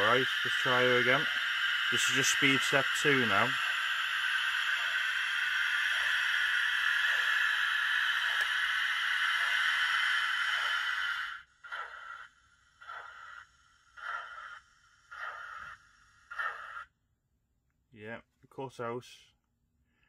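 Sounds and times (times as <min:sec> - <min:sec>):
hiss of steam: 0:00.0 - 0:16.8
steam locomotive chuffs: 0:00.0 - 0:16.9.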